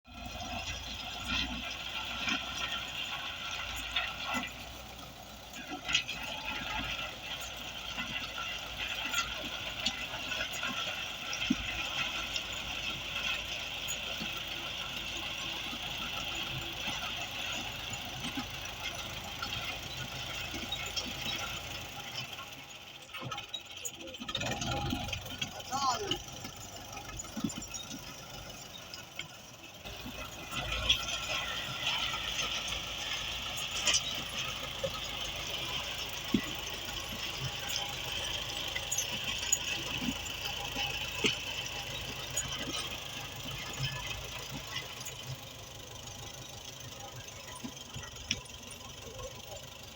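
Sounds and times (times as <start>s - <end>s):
machinery engine running: 0.0s - 49.9s.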